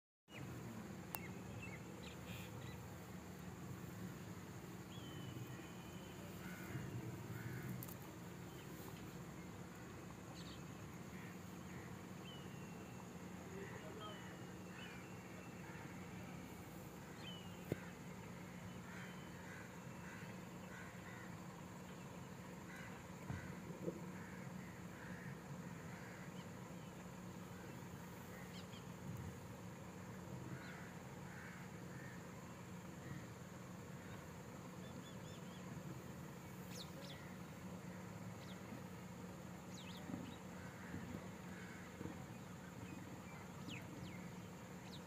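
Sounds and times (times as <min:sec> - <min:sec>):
birds calling: 0:00.3 - 0:45.0
steady low hum: 0:00.3 - 0:45.0.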